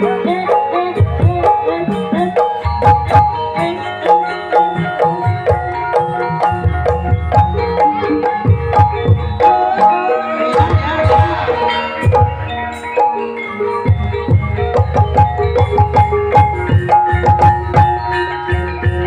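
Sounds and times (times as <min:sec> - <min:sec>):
mallet-struck melodic instruments: 0:00.0 - 0:19.0.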